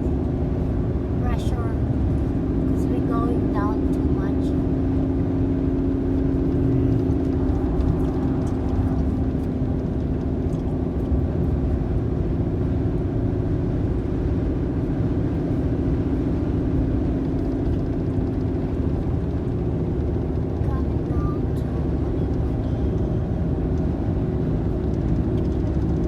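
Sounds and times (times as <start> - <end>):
car engine and road hum: 0.0 - 26.0.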